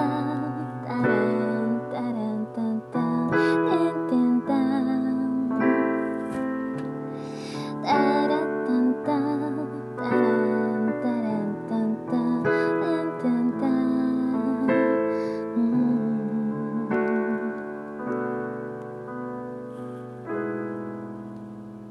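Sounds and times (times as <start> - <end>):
solo piano chords: 0.0 - 21.9.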